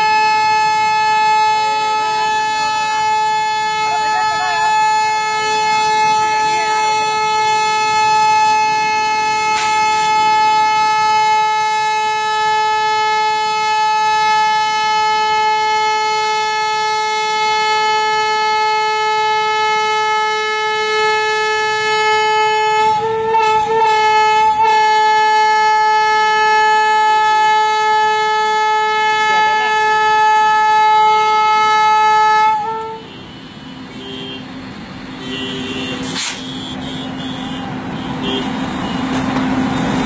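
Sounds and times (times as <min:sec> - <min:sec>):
diesel locomotive horn blast: 0:00.0 - 0:40.0.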